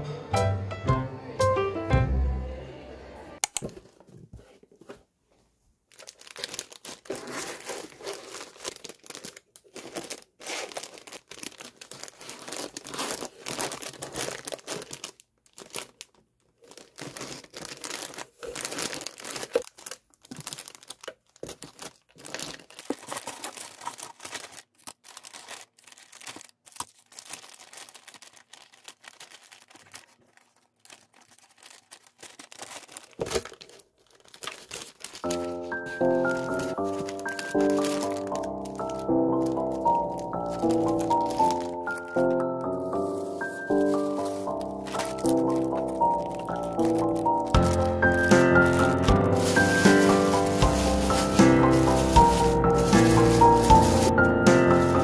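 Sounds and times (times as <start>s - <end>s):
plastic and paper crinkling: 3.6s - 55.0s.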